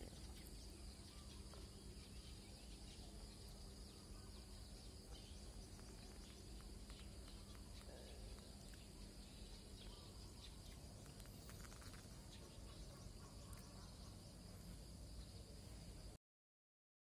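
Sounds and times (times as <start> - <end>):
faint high-pitched hiss: 0.0 - 16.2.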